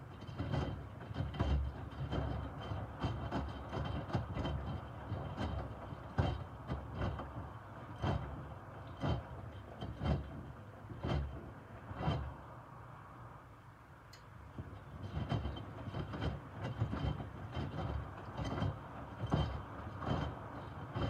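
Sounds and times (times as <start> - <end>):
washing machine drum motor: 0.0 - 13.2, 14.2 - 21.0.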